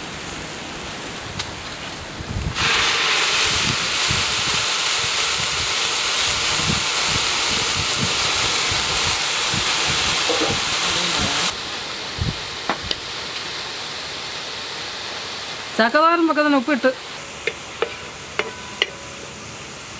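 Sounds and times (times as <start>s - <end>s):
water hissing in hot pan: 0.0s - 19.9s.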